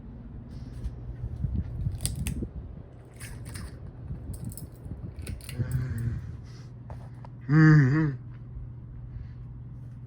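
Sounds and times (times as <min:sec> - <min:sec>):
ceiling fan airflow rumble: 0:00.0 - 0:10.0.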